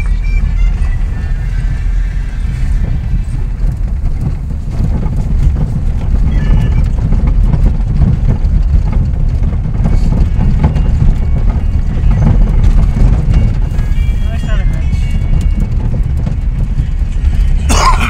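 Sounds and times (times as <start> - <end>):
knocks and rattles: 0.0 - 18.0
tyres rumbling on dirt road: 0.0 - 18.0.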